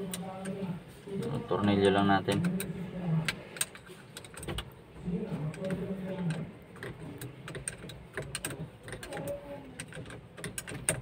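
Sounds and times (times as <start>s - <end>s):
muffled voices: 0.0s - 4.1s, 4.8s - 10.1s.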